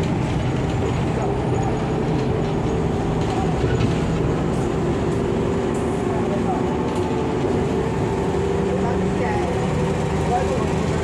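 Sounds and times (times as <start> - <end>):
bus engine drone: 0.0 - 11.0
road rumble: 0.0 - 11.0.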